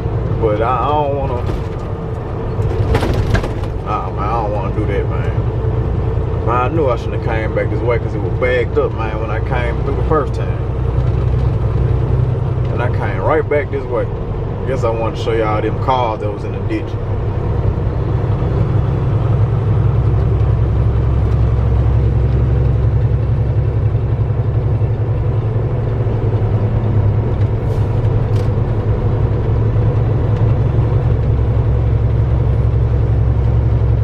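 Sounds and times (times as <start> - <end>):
diesel truck engine drone: 0.0 - 34.0
road noise inside cab: 0.0 - 34.0.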